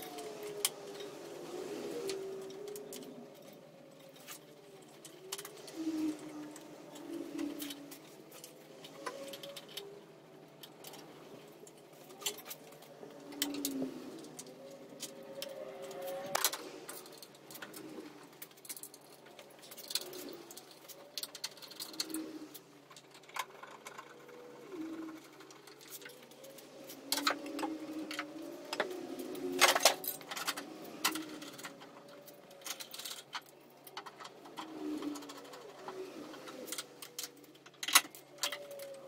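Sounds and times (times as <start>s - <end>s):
parts and tools clicking and knocking: 0.0s - 39.0s.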